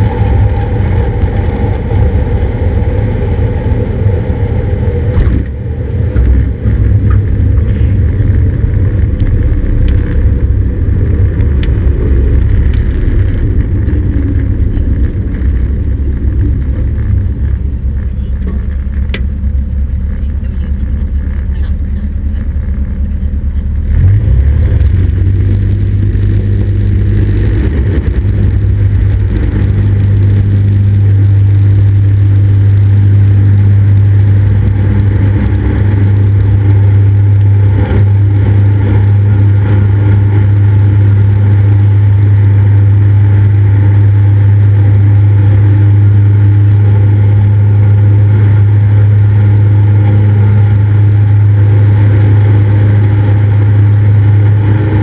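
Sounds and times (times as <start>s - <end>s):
aircraft propeller engine drone: 0.0s - 55.0s.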